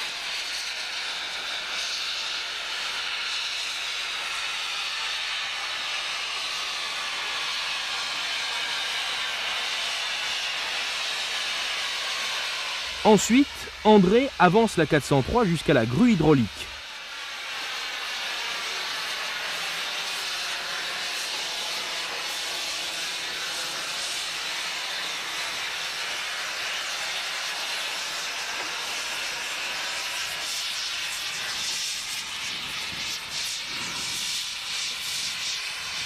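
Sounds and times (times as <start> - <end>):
steam hissing: 0.0 - 36.0.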